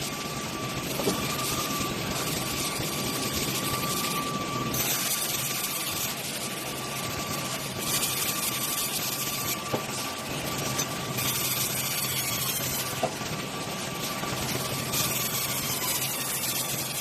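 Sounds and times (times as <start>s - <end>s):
sawmill machine hum and whine: 0.0s - 17.0s.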